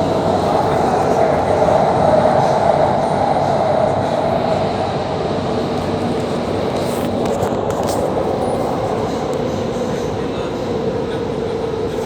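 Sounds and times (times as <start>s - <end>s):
underground train rumble with whine: 0.0s - 12.0s.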